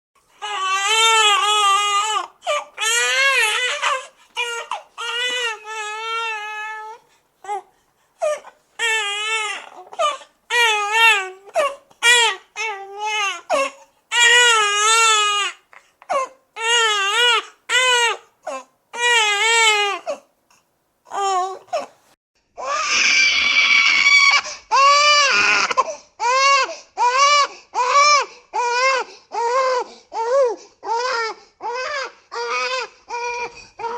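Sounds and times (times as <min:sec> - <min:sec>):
newborn baby crying: 0:00.4 - 0:20.3, 0:21.0 - 0:33.9.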